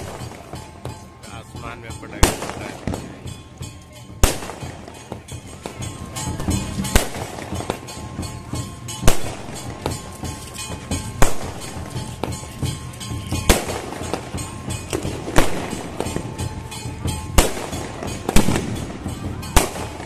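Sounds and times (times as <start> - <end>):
fireworks bangs: 0.0 - 3.3, 4.2 - 20.0
fireworks crackling: 0.0 - 20.0
music: 0.0 - 20.0.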